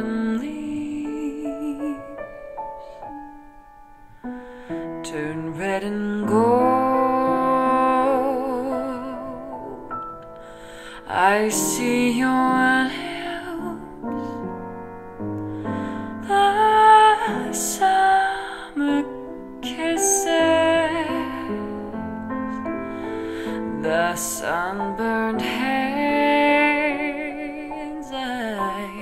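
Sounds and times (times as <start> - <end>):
slow music with sustained notes: 0.0 - 29.0.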